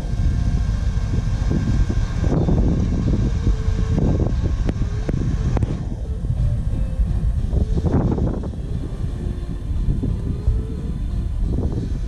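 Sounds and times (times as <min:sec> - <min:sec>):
motorcycle engine and road rumble: 0:00.0 - 0:12.0
wind buffeting microphone: 0:00.0 - 0:12.0.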